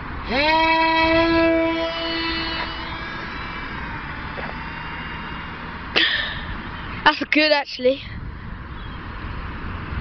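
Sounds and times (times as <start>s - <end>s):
electric motor and propeller whine: 0.0s - 10.0s.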